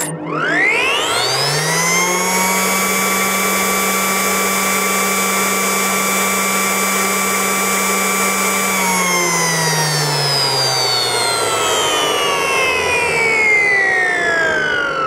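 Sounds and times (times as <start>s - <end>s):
mill rotor high whine: 0.0s - 15.0s.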